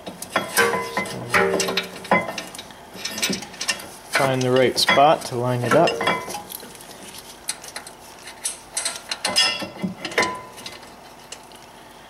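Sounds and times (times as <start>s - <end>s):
metal clinks and knocks: 0.3s - 6.7s, 7.5s - 10.8s.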